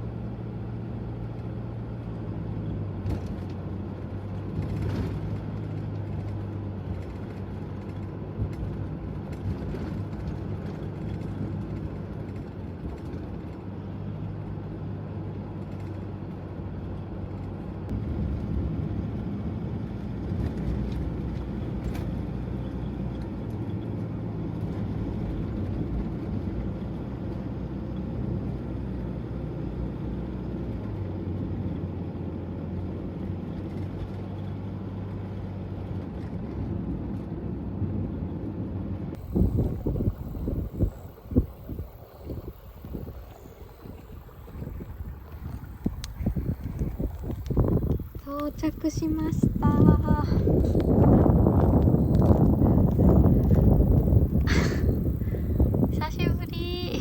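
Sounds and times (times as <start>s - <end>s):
van engine and road rumble: 0.0s - 57.0s.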